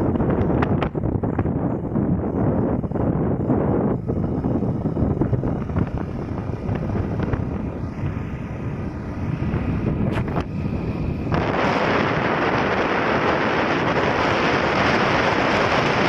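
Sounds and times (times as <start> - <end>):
motorcycle running: 0.0 - 16.0
wind rush on microphone: 0.0 - 16.0.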